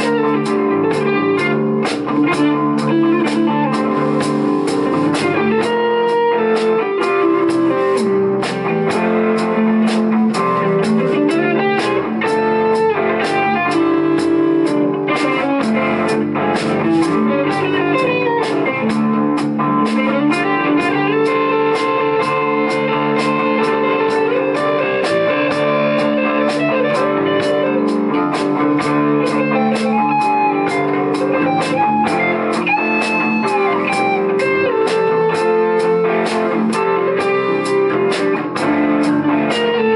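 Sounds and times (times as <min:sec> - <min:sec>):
lead guitar bending notes: 0:00.0 - 0:39.9
rock band playing: 0:00.0 - 0:39.9.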